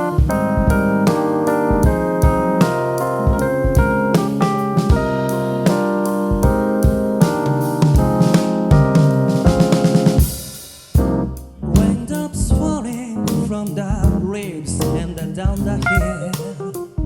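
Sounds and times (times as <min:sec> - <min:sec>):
live band playing: 0:00.0 - 0:12.2, 0:13.3 - 0:17.0
bending lead melody: 0:00.0 - 0:17.0
drums: 0:00.0 - 0:17.0
electric piano chords: 0:00.0 - 0:17.0.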